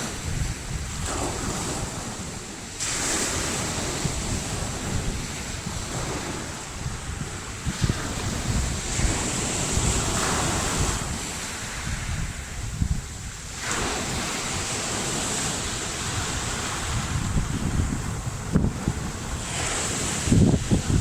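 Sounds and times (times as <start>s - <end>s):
surf washing onto shore: 0.0s - 21.0s
wind buffeting microphone: 0.0s - 21.0s.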